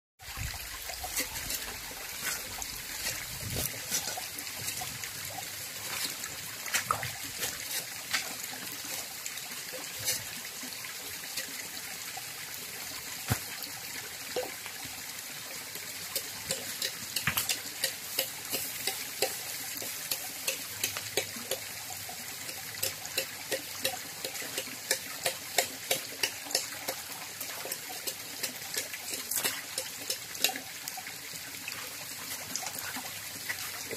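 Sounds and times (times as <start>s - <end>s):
stream trickling over rocks: 0.2s - 33.9s
water splashes and clicks: 0.2s - 33.9s.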